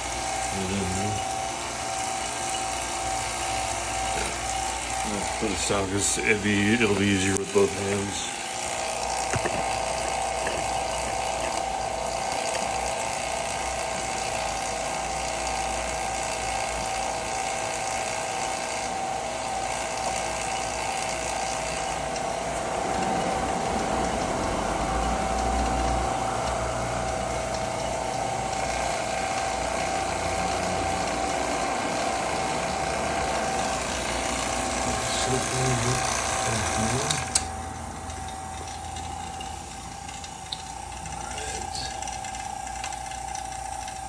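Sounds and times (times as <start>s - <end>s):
electric vacuum pump humming: 0.0s - 44.0s.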